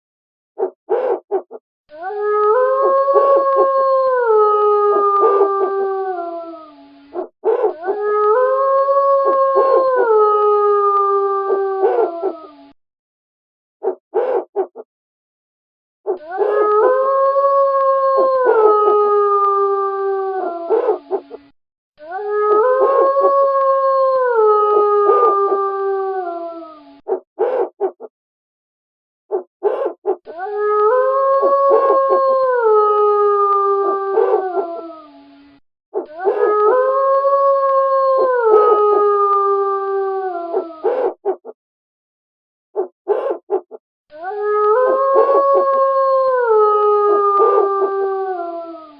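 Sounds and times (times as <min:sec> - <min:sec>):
wolf howling: 0:00.6 - 0:12.8, 0:16.1 - 0:28.0, 0:29.3 - 0:35.4, 0:36.0 - 0:41.6, 0:42.8 - 0:48.9.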